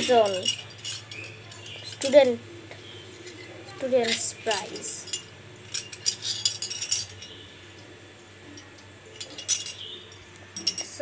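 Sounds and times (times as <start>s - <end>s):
small hard objects clinking: 0.0s - 2.4s, 3.2s - 7.4s, 8.6s - 11.0s.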